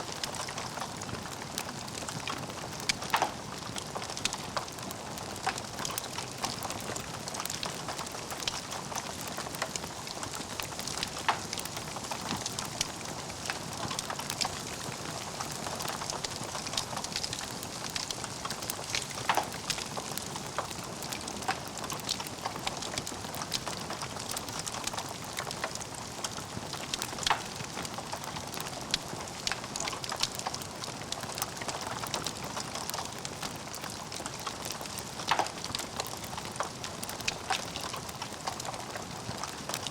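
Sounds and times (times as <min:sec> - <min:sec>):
logs crackling in fireplace: 0:00.0 - 0:39.9.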